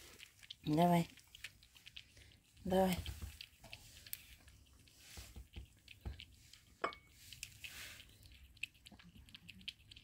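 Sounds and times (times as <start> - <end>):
cats lapping milk: 0.0 - 10.0.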